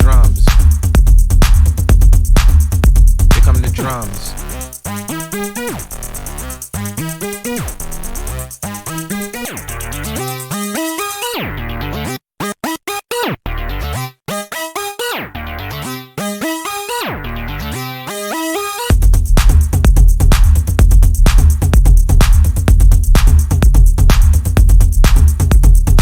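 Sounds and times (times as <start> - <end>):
electronic synthesizer music: 0.0 - 12.1, 13.5 - 26.0.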